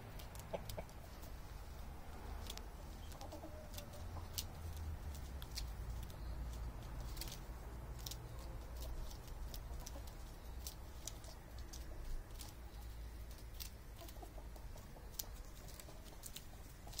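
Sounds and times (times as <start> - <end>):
beaks pecking leaves: 0.0 - 17.0
chickens clucking: 0.0 - 17.0.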